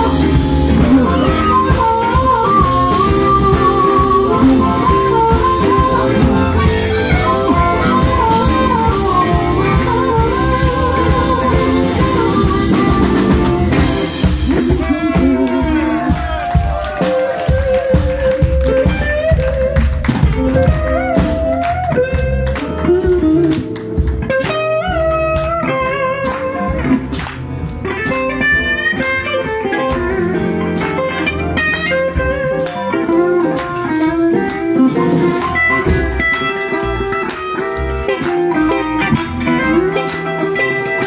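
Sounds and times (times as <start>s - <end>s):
drum kit beat: 0.0s - 41.0s
electric bass: 0.0s - 41.0s
electric guitar lead: 0.0s - 41.0s.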